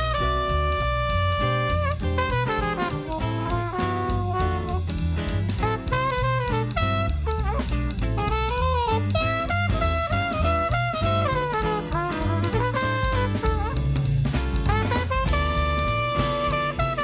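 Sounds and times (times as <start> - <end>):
drum kit keeping time: 0.0 - 17.0
horn melody with sliding notes: 0.0 - 17.0
jazz band playing: 0.0 - 17.0
walking bass line: 0.0 - 17.0.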